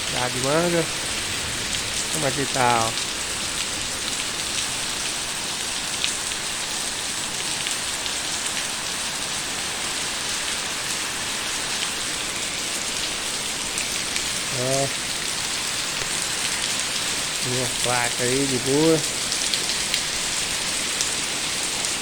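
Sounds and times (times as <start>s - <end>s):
steady rain pattering: 0.0s - 22.0s.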